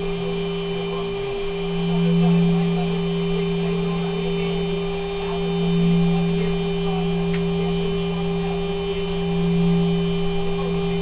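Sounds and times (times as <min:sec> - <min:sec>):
router spindle high hum: 0:00.0 - 0:11.0.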